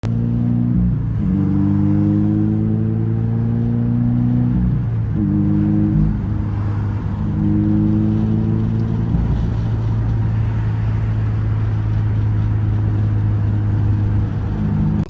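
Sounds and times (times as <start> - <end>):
car engine low drone: 0.0 - 15.0.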